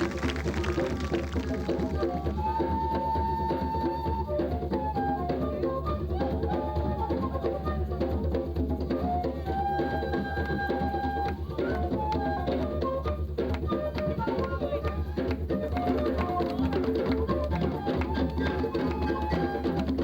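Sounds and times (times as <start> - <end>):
busy drums and percussion: 0.0 - 20.0.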